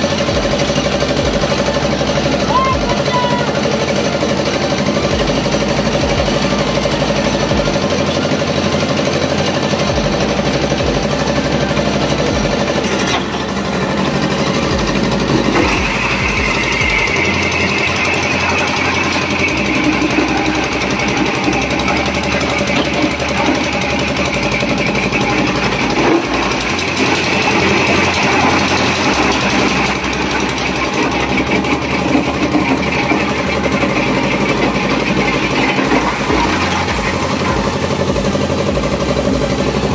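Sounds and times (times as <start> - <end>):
ice crushing machine grinding: 0.0 - 39.9.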